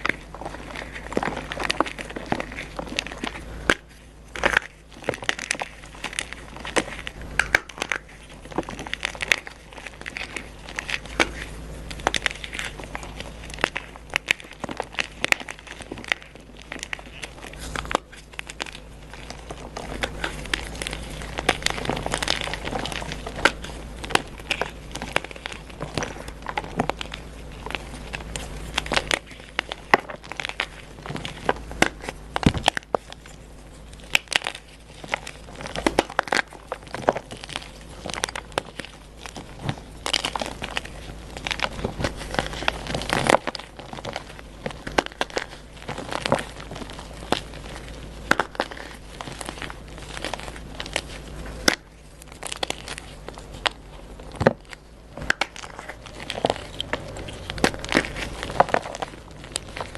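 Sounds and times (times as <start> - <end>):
chalk crunching and cracking: 0.0 - 59.9.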